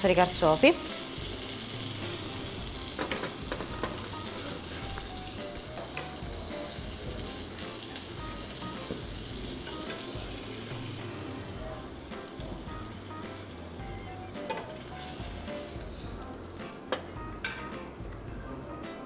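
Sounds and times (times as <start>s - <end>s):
oil sizzling in a pan: 0.0s - 19.0s.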